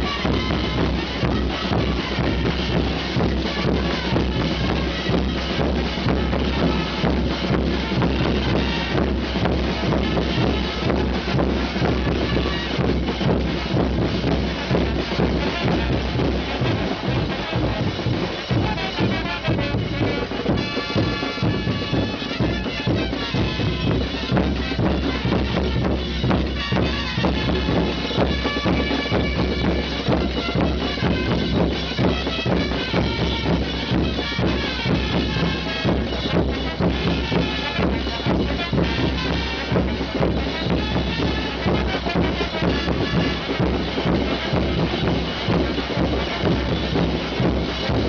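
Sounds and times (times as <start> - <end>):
drums beating: 0.0 - 48.0
shrill wind instruments: 0.0 - 48.0.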